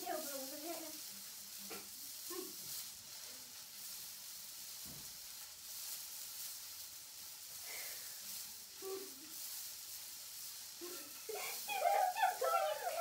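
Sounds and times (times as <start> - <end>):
hula hoops swishing: 0.0 - 13.0.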